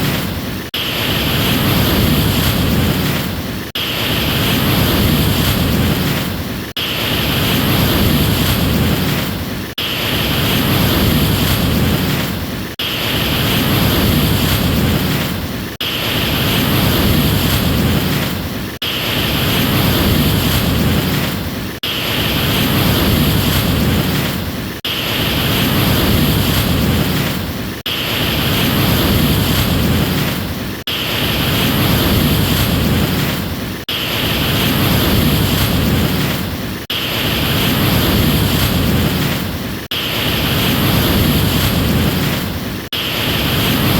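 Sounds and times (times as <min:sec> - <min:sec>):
ocean waves washing: 0:00.0 - 0:43.9.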